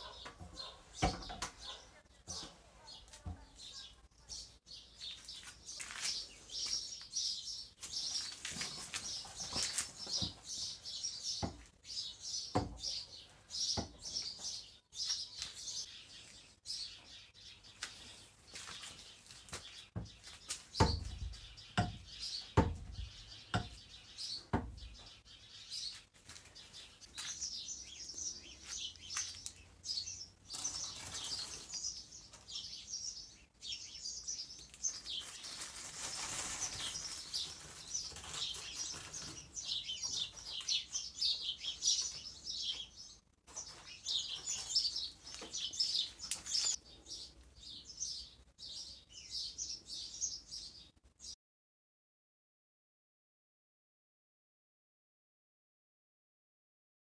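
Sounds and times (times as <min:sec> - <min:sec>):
small birds chirping: 0:00.0 - 0:51.4.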